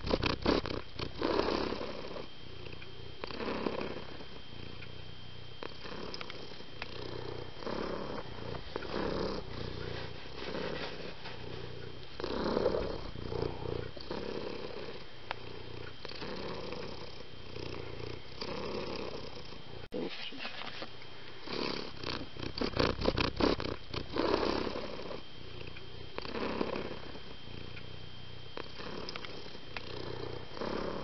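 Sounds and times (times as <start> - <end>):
cat purring: 0.0 - 20.8, 21.4 - 31.0.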